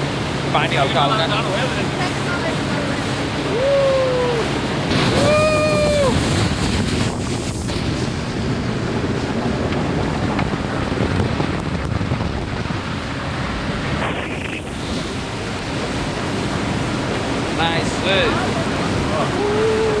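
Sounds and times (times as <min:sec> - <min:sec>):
water rushing past boat: 0:00.0 - 0:20.0
wind buffeting microphone: 0:00.0 - 0:20.0.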